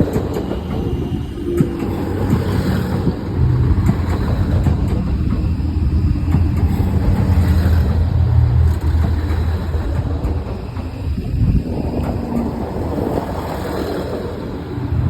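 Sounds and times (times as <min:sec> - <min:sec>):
rail noise: 0:00.0 - 0:15.0
train engine rumble: 0:00.0 - 0:15.0.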